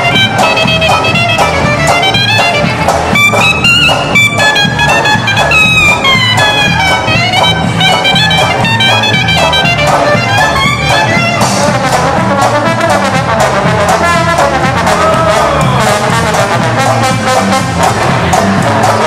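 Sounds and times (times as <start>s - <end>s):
clarinet solo: 0.0s - 17.8s
swing band playing rumba: 0.0s - 19.0s
trombone solo: 0.0s - 19.0s.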